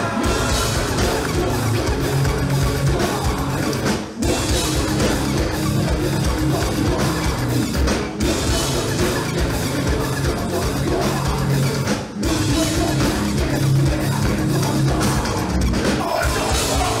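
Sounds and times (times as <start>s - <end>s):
live metal band playing: 0.0s - 17.0s
pounding drum kit: 0.0s - 17.0s.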